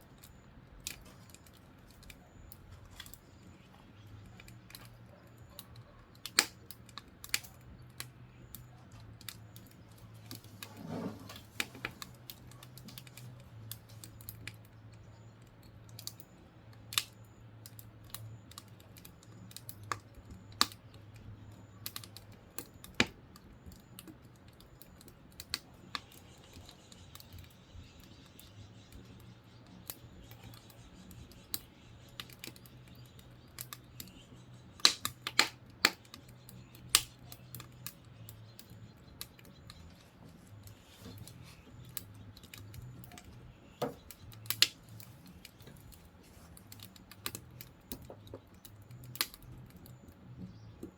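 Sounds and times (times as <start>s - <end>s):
firewood crackling and popping: 0.0s - 50.9s
low steady hum: 0.0s - 50.9s.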